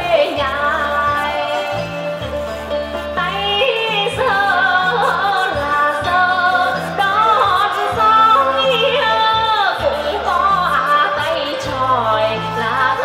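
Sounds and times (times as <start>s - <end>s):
instrumental accompaniment: 0.0s - 13.0s
person singing folk song: 0.0s - 13.0s.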